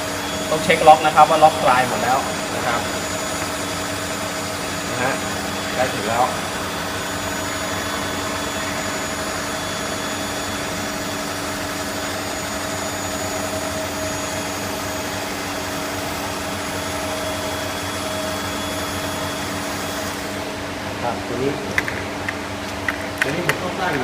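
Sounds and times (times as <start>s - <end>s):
power-feed motor humming: 0.0s - 24.0s.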